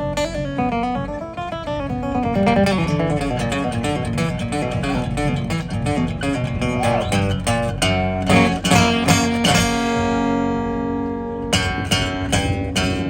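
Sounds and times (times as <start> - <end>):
low bass notes: 0.0 - 13.0
picked guitar melody: 0.0 - 13.0.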